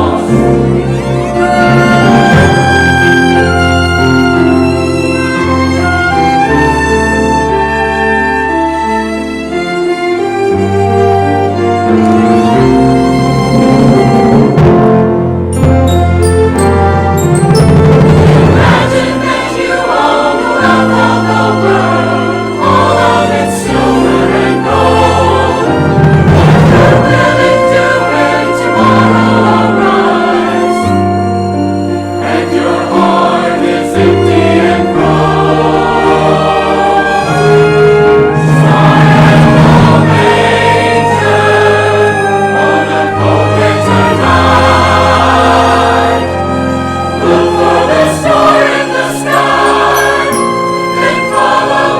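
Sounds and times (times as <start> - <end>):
choir singing: 0.0 - 14.6, 15.6 - 51.9
orchestral accompaniment: 0.0 - 51.9.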